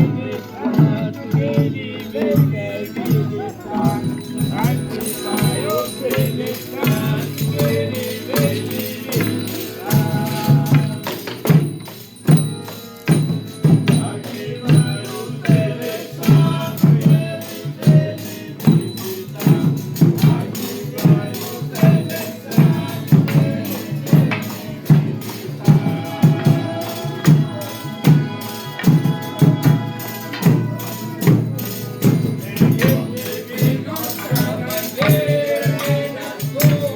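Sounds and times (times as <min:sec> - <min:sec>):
held melodic notes: 0:00.0 - 0:36.9
steady drum beat: 0:00.0 - 0:36.9
tambourine jingles: 0:00.0 - 0:36.9.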